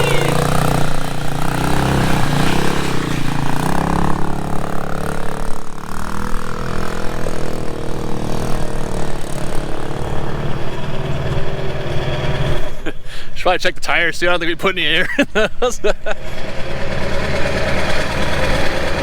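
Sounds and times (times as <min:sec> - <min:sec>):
dirt bike engine revving: 0:00.0 - 0:13.4, 0:14.4 - 0:19.0.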